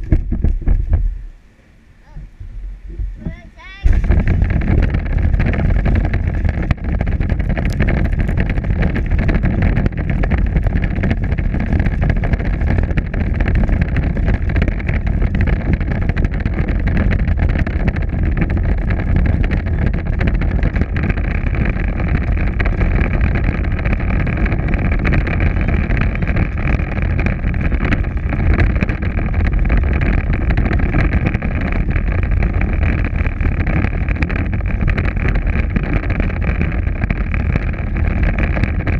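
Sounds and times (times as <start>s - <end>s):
wheels rumbling on asphalt: 0.0s - 38.9s.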